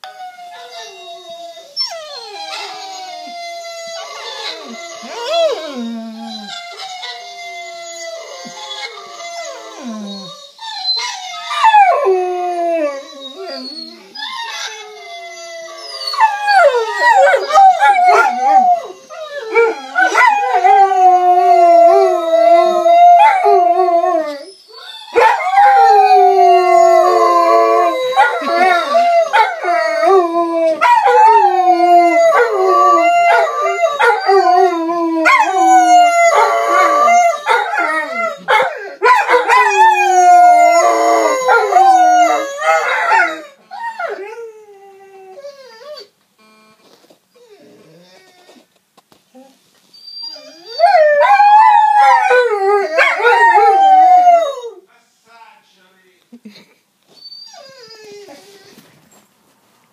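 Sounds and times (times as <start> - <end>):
dogs howling: 0.0 - 46.1, 50.3 - 54.8
recorded dog howling: 0.0 - 46.1, 50.3 - 54.8.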